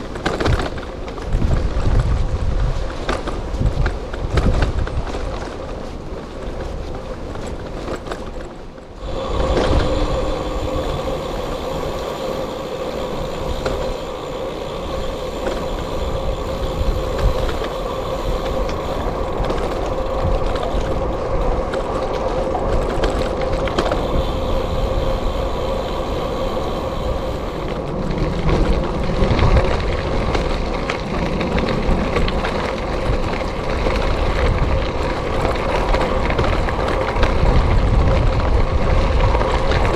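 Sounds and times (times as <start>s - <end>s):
bike rolling on gravel trail: 0.0s - 39.9s
wind rumbling on microphone: 0.0s - 39.9s.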